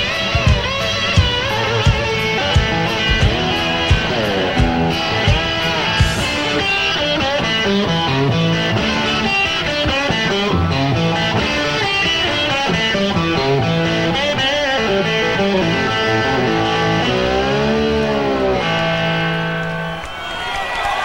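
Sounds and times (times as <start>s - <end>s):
electric guitar lead line: 0.0s - 20.1s.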